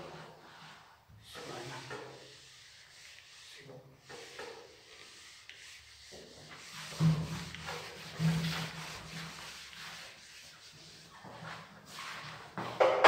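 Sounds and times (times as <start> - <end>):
eraser wiping whiteboard: 0.0 - 12.8.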